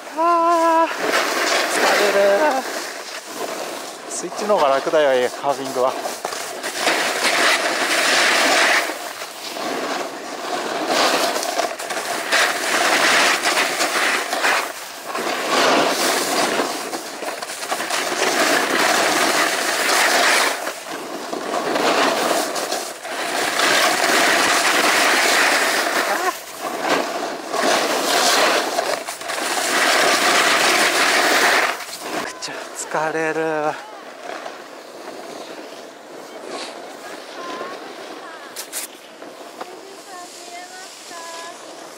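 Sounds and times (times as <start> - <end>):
snowboard scraping over snow: 0.0 - 41.9.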